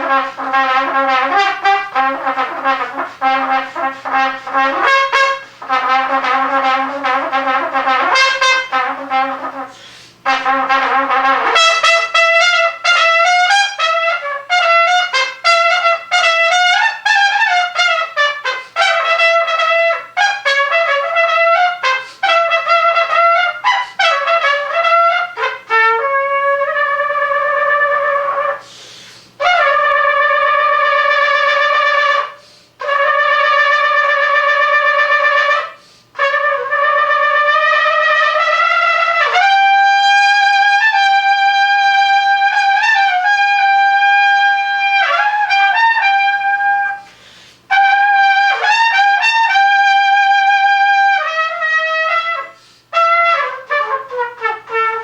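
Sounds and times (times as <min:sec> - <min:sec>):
solo trumpet playing: 0:00.0 - 0:28.8, 0:29.4 - 0:55.0.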